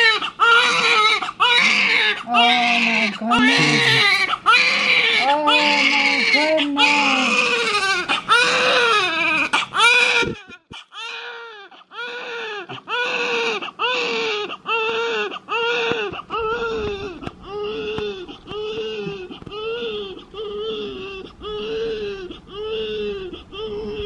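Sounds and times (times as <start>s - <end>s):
newborn baby crying: 0.0s - 24.0s.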